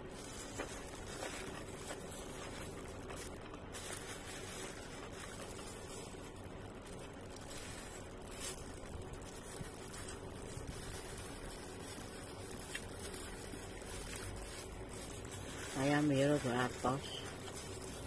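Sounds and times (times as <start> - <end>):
plastic glove rustling: 0.0 - 18.0.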